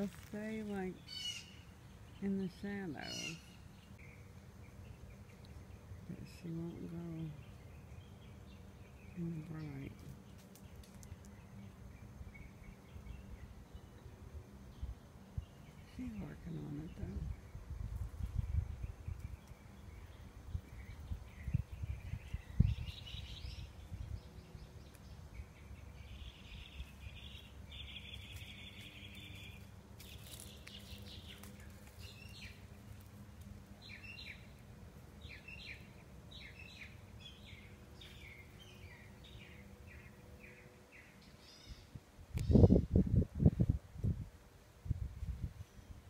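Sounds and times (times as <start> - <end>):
steady low rumble: 0.0 - 40.4
small birds chirping: 0.0 - 44.2.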